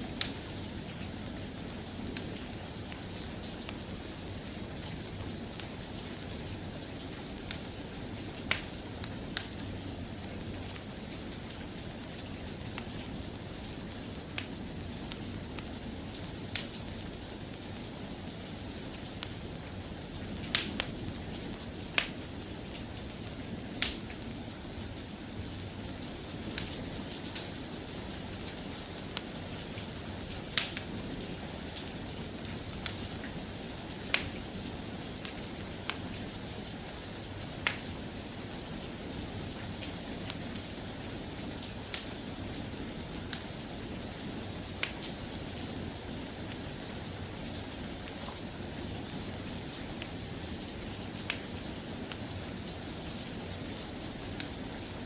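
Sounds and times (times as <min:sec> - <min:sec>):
soft rain: 0:00.0 - 0:55.0.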